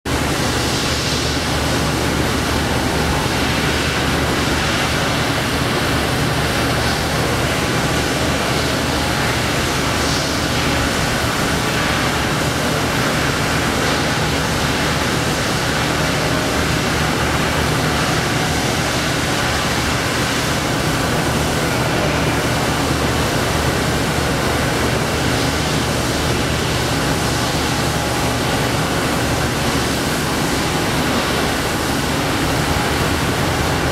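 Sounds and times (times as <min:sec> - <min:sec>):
continuous rushing hiss: 0:00.1 - 0:33.9.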